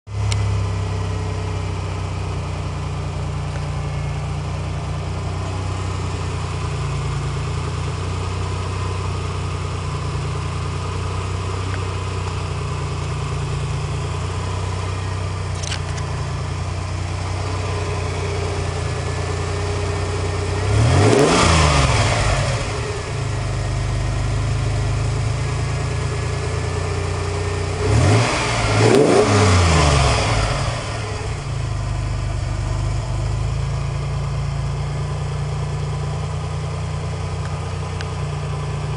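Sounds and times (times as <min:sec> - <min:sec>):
car engine idling and revving: 0:00.1 - 0:38.9.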